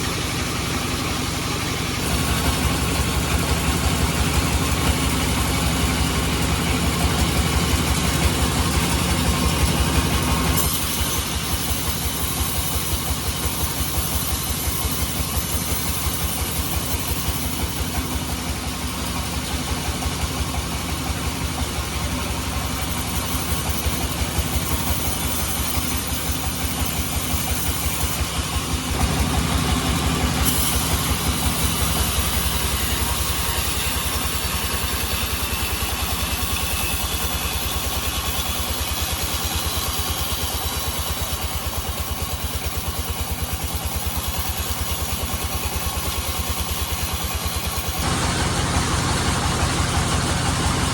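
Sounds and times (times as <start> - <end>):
band saw running: 0.0 - 50.9
engine pulsing: 0.0 - 50.9.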